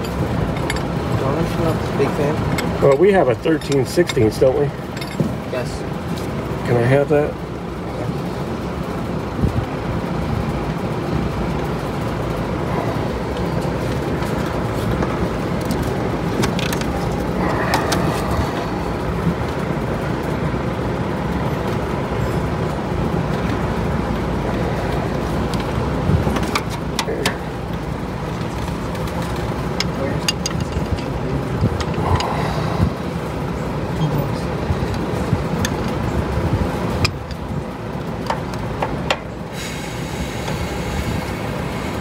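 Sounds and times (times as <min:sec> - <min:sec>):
fan rushing hum: 0:00.0 - 0:42.0.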